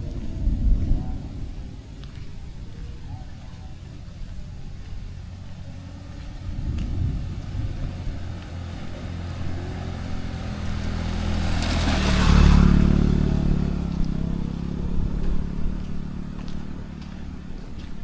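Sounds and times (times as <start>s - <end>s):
vehicle driving past: 3.2s - 18.0s.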